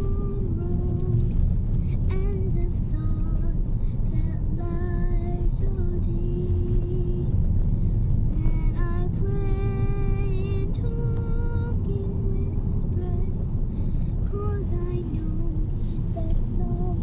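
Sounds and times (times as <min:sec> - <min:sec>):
road noise inside moving car: 0:00.0 - 0:17.0.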